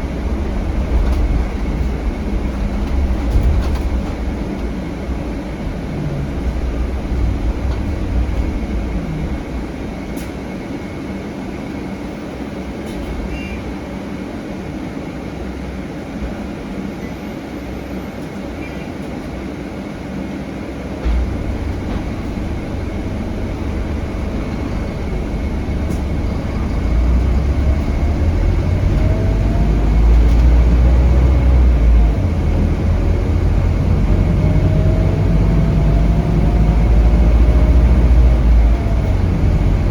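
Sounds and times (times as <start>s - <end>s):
bus engine rumbling: 0.0s - 39.9s
road noise: 0.0s - 39.9s.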